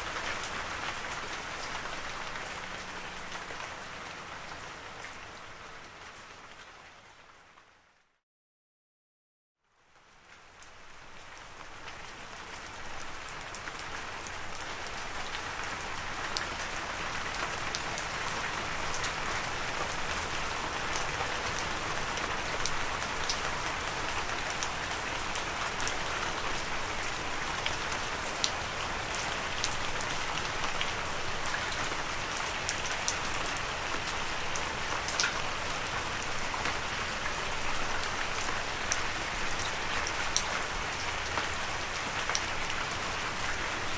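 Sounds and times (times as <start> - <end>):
steady rain falling: 0.0 - 8.1, 9.6 - 43.9.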